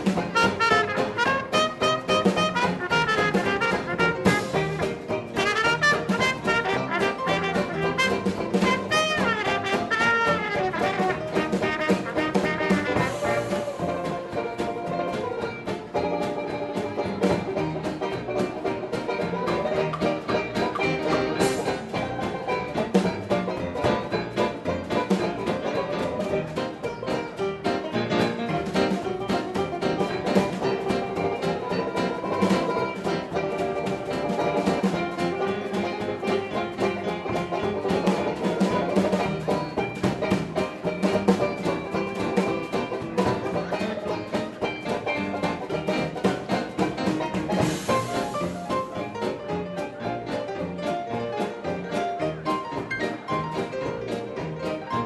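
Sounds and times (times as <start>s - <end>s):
hot jazz dance orchestra: 0.0s - 55.0s.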